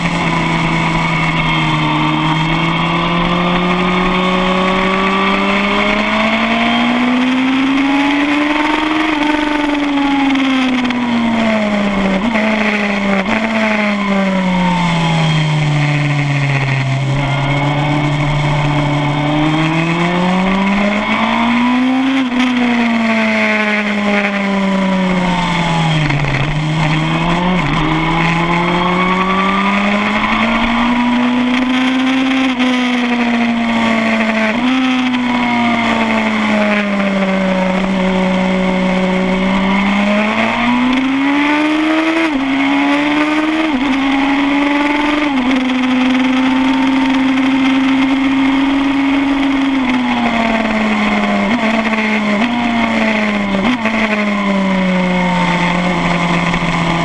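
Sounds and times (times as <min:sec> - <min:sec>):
gear changes and throttle blips: 0:00.0 - 0:57.0
motorcycle engine at high revs: 0:00.0 - 0:57.0.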